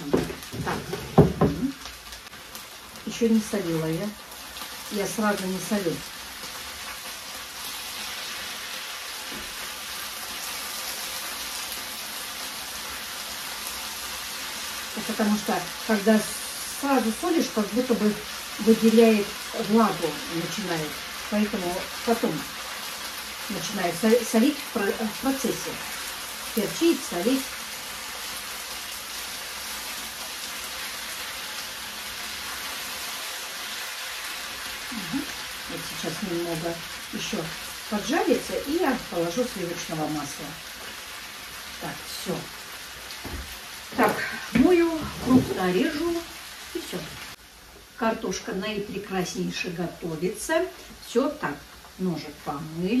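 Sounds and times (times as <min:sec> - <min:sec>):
potatoes sizzling in hot oil: 0:00.0 - 0:53.0.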